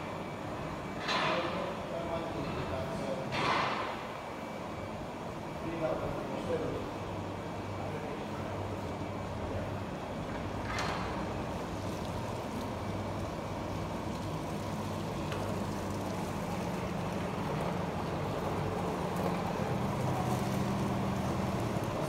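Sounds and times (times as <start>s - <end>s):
machinery hum and rumble: 0.0s - 22.0s.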